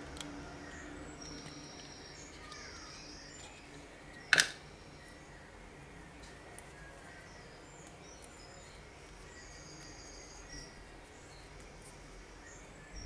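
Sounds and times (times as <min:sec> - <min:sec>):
faint high chirps: 0:00.3 - 0:13.0.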